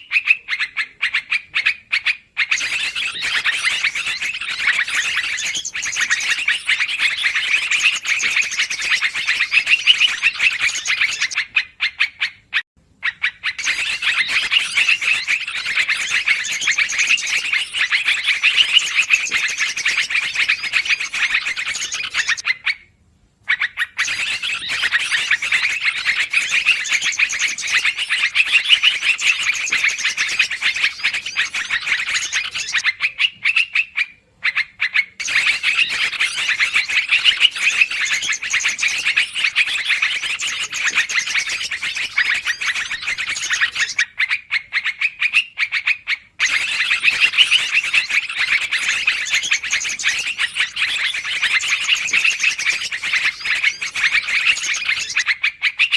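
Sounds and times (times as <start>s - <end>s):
birds chattering: 0.0s - 22.8s, 23.4s - 55.9s.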